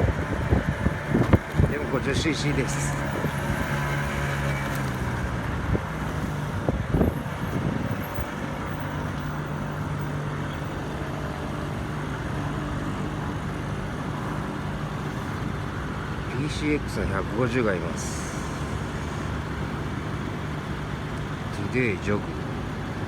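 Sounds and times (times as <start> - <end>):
moped engines idling: 0.0 - 23.0.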